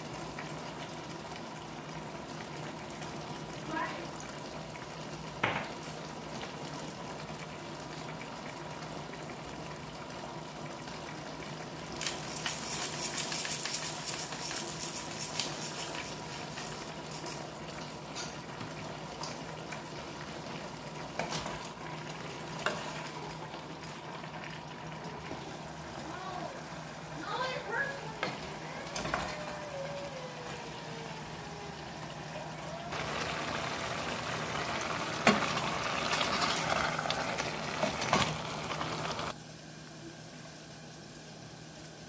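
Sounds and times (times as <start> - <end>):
vegetables sizzling in a pot: 0.0 - 42.0.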